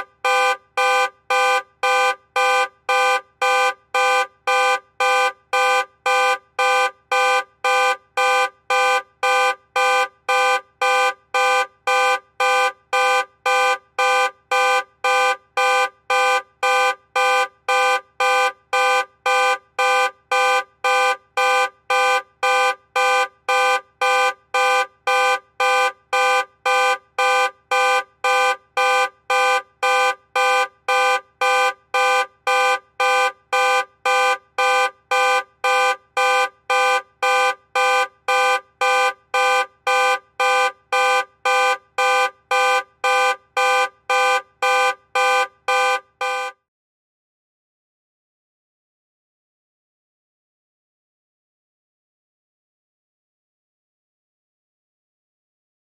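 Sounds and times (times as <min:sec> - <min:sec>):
car horn blasts from alarm: 0:00.0 - 0:46.7.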